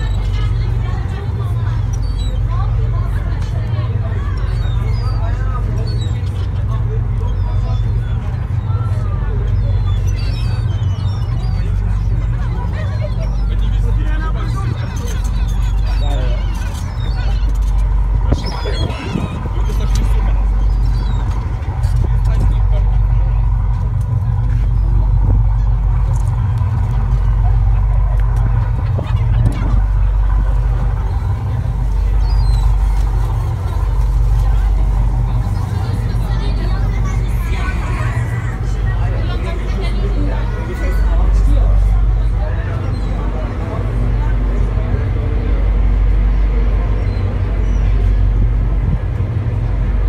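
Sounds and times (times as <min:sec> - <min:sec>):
faint voices: 0:00.0 - 0:50.0
ferry engine drone: 0:00.0 - 0:50.0.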